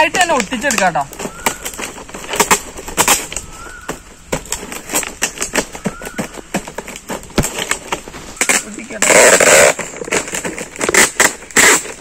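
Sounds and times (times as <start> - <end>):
plastic bottles crackling: 0.0 - 12.0
tape being pulled: 0.0 - 12.0.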